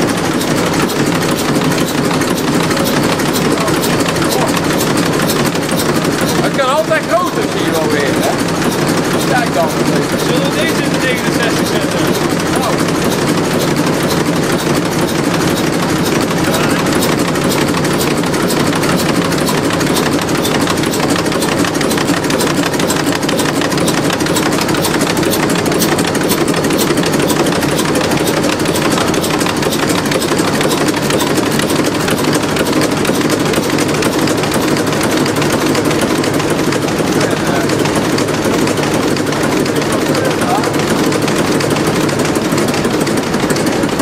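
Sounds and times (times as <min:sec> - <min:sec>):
engine running with mechanical clatter: 0:00.0 - 0:44.0.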